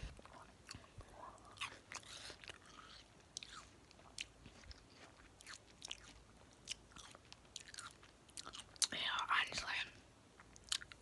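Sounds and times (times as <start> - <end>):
person chewing watermelon: 0.0 - 9.0, 10.4 - 11.0.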